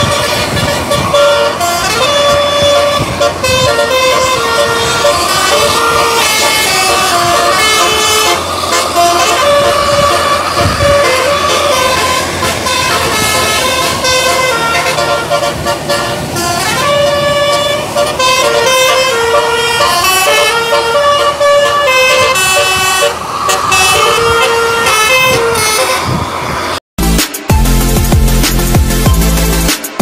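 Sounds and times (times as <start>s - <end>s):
musical air horn playing tune: 0.0s - 26.4s
bus engine running: 0.0s - 30.0s.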